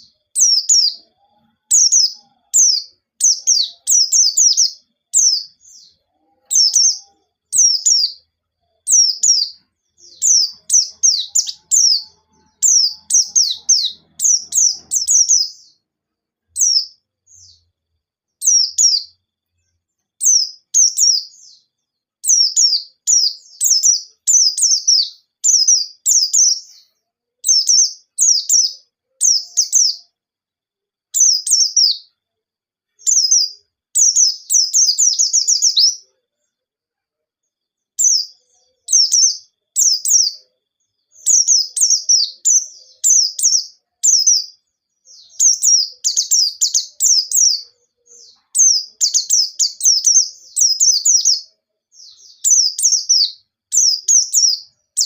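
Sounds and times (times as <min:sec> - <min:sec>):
bird chirping: 0:00.0 - 0:30.5, 0:31.1 - 0:55.0.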